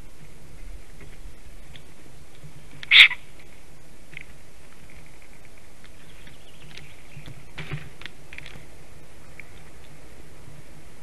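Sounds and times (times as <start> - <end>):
steady low hum: 0.0 - 11.0
nest twigs rustling and clicking: 0.9 - 10.0.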